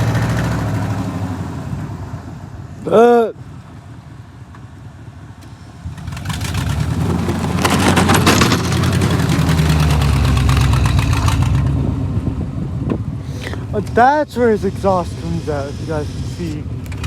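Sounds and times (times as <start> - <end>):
vehicle engine revving: 0.0 - 3.7, 5.4 - 17.0.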